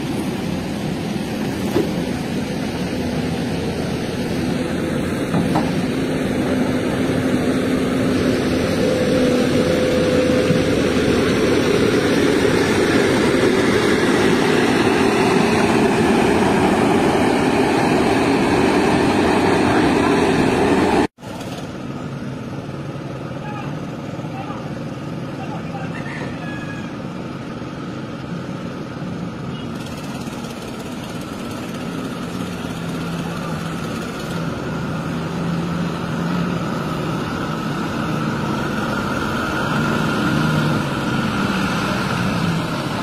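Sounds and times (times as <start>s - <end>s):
construction site sounds: 0.0s - 43.0s
heavy diesel engines straining: 0.0s - 43.0s.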